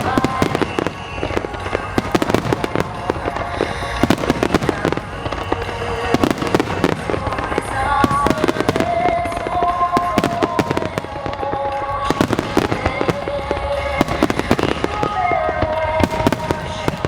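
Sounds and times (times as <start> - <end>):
fireworks bursting and crackling: 0.0 - 17.0
music with slow melody: 0.0 - 17.0.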